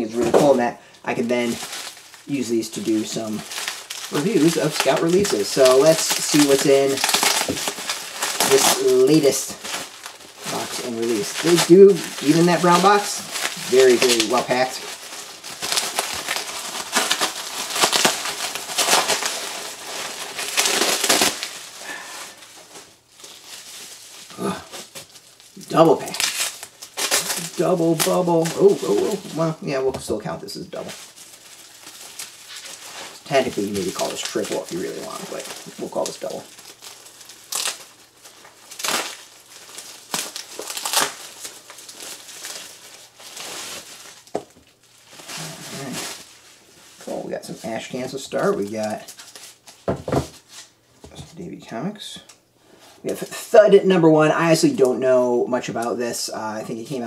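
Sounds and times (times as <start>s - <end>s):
sharp bubble wrap crackles: 0.0s - 52.4s, 53.0s - 57.0s
bubble wrap crinkling: 0.0s - 57.0s.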